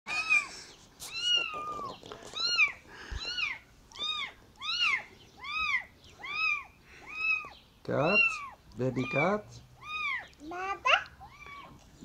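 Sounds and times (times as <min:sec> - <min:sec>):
kitten meowing: 0:01.1 - 0:11.8.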